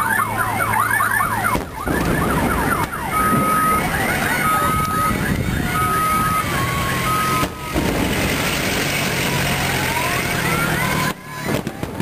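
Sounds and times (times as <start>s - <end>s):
fireworks whistling: 1.5s - 12.0s.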